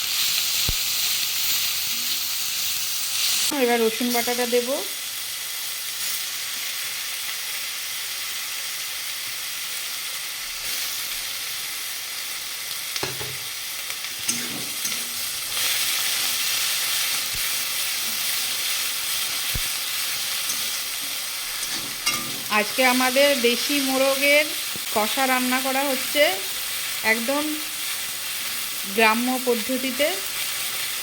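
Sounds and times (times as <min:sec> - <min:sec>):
paste sizzling in hot oil: 0:00.0 - 0:31.0.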